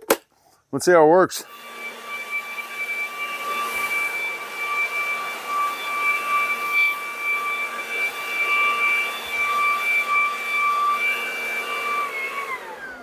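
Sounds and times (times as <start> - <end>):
leaf blower running: 1.4 - 13.0
motor spinning down: 1.4 - 13.0.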